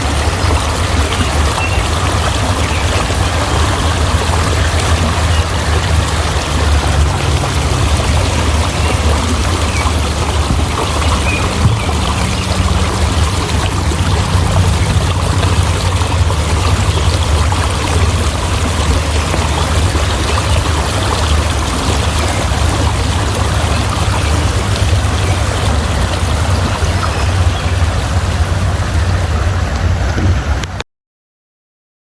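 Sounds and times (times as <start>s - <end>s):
rushing water: 0.0s - 30.8s.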